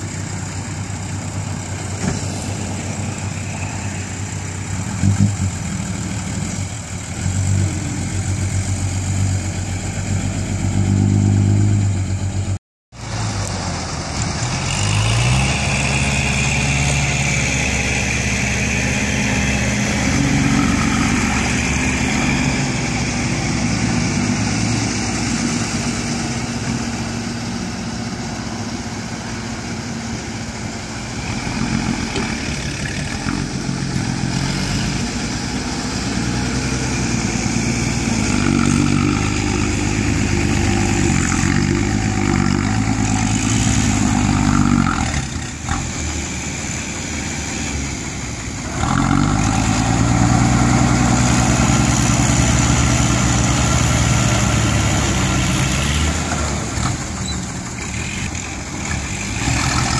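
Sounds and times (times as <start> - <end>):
dump truck engine running: 0.0 - 59.9.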